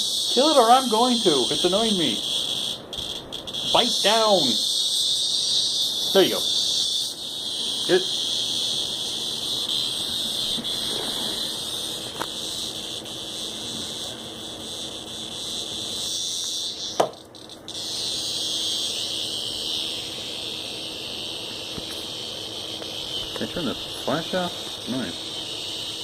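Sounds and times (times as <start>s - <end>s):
cicada distress buzz: 0.0s - 26.0s.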